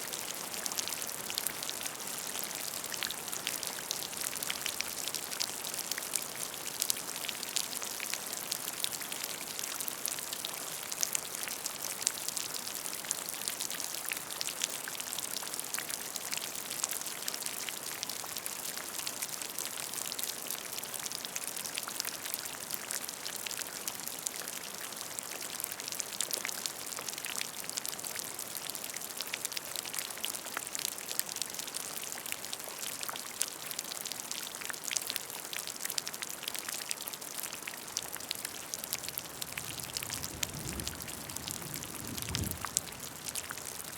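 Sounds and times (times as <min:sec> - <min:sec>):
rain splashing into a puddle: 0:00.0 - 0:43.9.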